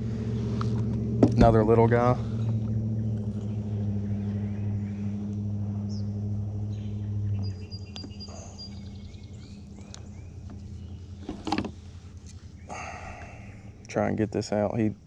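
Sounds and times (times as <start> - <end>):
birds chirping: 0.0 - 15.0
low machine hum: 0.0 - 15.0.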